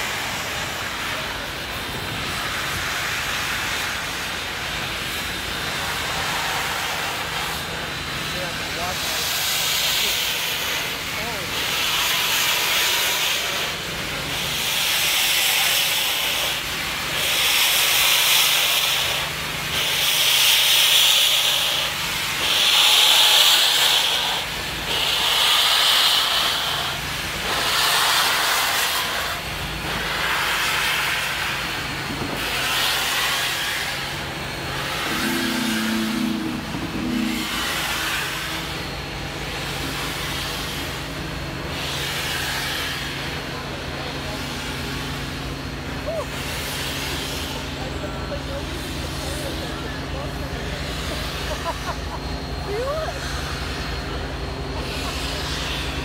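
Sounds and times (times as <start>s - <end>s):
long hisses of steam: 0.0s - 50.0s, 52.6s - 56.0s.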